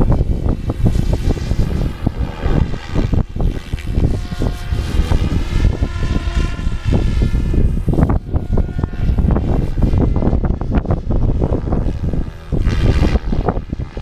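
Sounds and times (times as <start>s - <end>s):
rc helicopter rotor whine: 0.0s - 14.0s
wind buffeting the microphone: 0.0s - 14.0s.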